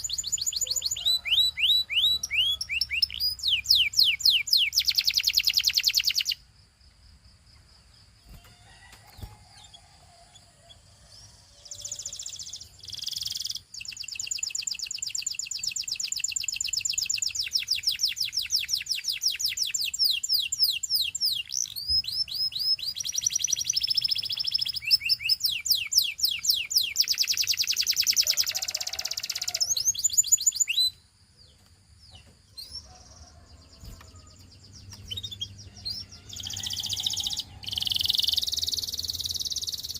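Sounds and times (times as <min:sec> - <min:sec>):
canary singing trills: 0:00.0 - 0:06.4, 0:08.2 - 0:39.9.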